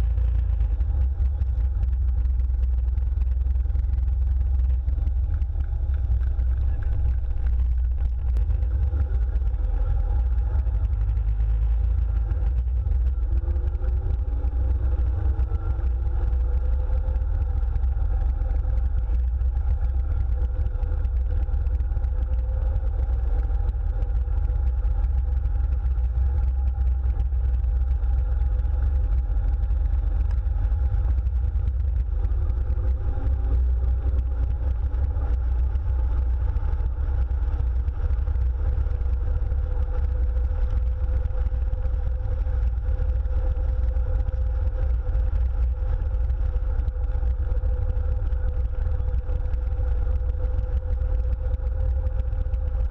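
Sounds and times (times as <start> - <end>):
car engine running: 0.0 - 52.9
wind rumble on microphone: 0.0 - 52.9.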